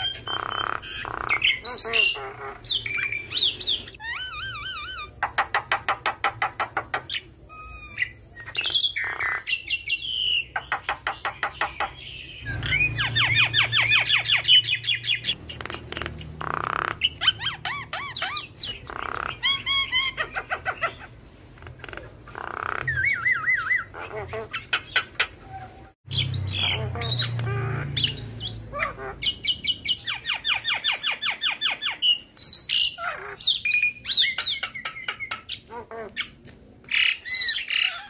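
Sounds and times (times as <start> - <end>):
bird harsh squawks: 0.0 - 38.0.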